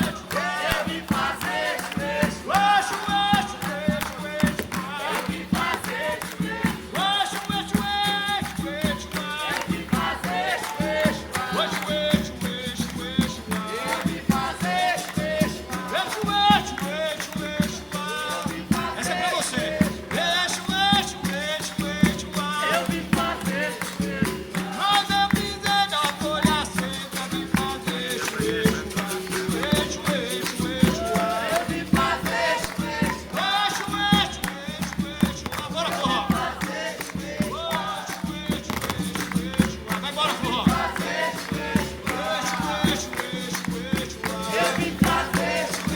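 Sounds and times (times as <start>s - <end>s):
berimbaus playing: 0.0s - 45.9s
rattling shaker percussion: 0.0s - 45.9s
voices singing: 0.0s - 45.9s.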